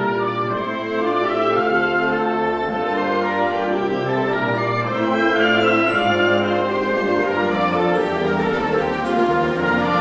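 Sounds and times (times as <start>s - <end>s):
wind band playing held chords: 0.0s - 10.0s.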